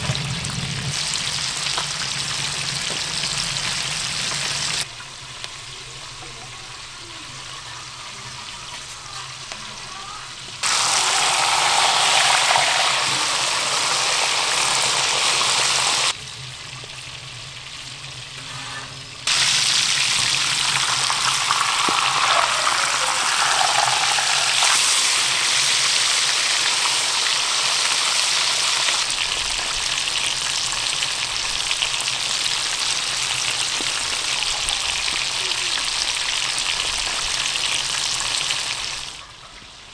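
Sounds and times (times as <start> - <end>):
fish sizzling in oil: 0.0 - 18.3, 19.0 - 39.9.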